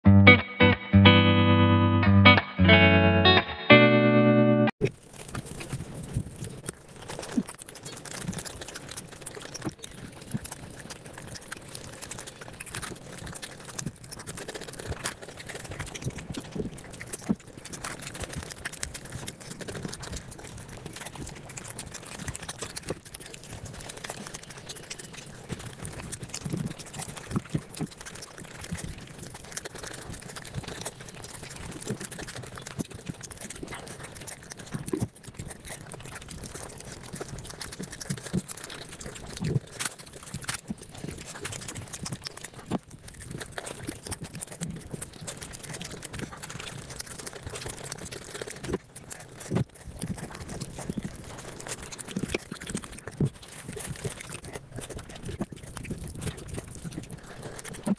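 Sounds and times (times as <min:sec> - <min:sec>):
sped-up chewing and mouth clicks: 0:04.8 - 0:57.9.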